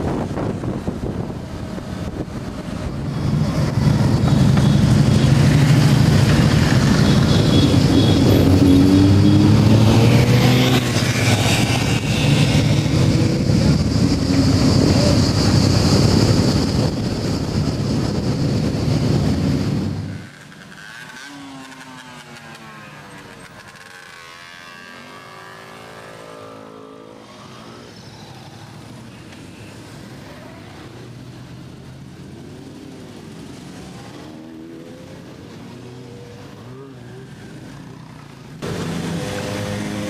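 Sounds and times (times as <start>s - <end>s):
motorcycles riding past revving: 0.1s - 40.0s.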